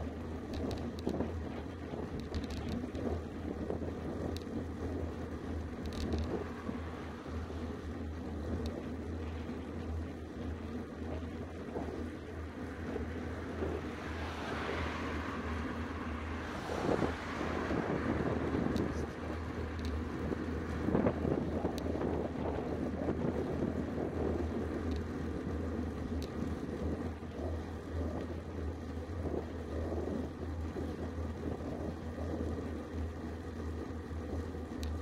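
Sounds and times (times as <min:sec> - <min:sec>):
tyres rumbling on asphalt: 0:00.0 - 0:35.0
wind buffeting microphone: 0:00.0 - 0:35.0.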